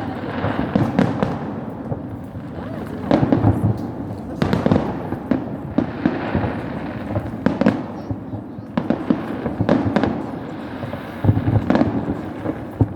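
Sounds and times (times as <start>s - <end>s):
fireworks booming and crackling: 0.0s - 12.9s.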